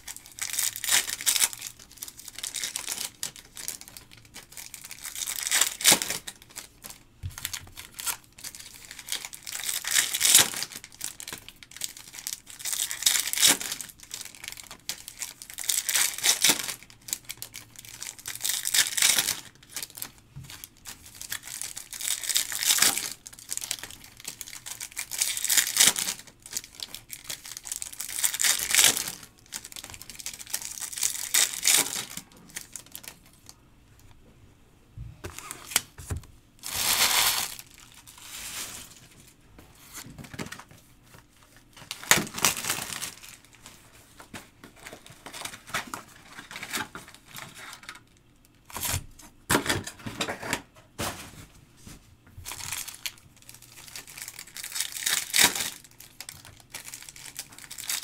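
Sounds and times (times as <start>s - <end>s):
card pack wrappers crinkling: 0.0s - 33.6s, 36.6s - 49.0s, 52.4s - 58.0s.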